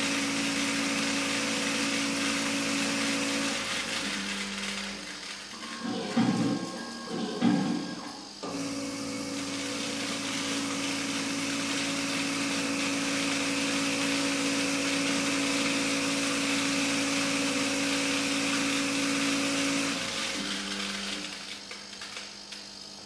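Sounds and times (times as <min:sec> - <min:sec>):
seed counter humming: 0:00.0 - 0:23.0.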